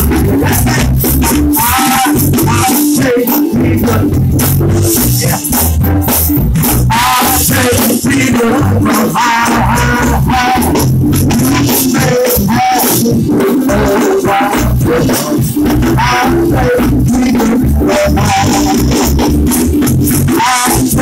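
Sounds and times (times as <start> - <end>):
man singing into a microphone: 0.0 - 5.8, 6.6 - 21.0
gospel band with bass and drums: 0.0 - 21.0.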